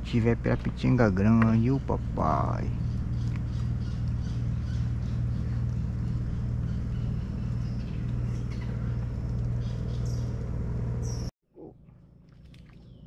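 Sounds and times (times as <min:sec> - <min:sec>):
low motor drone: 0:00.0 - 0:13.0.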